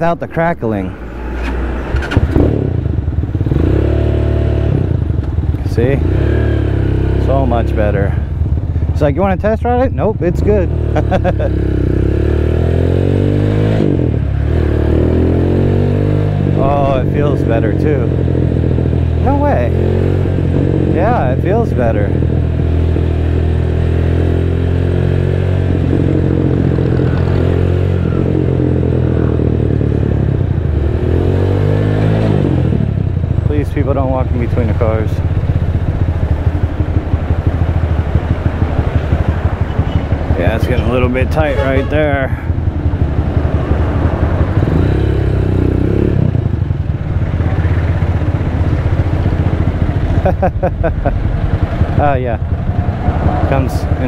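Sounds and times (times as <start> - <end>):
motorcycle engine revving: 1.1 - 54.0.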